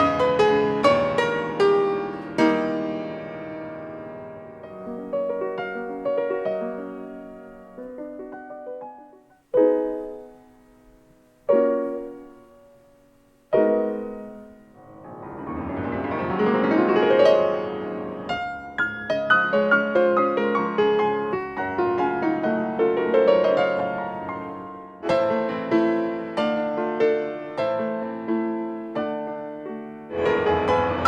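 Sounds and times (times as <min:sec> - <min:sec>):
solo piano playing: 0:00.0 - 0:31.0.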